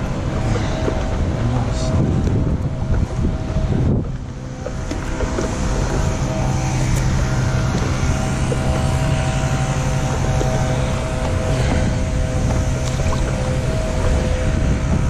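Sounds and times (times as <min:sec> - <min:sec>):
paddle strokes splashing: 0:00.0 - 0:15.0
steady droning hum: 0:00.0 - 0:15.0
wind rumbling on microphone: 0:00.0 - 0:15.0.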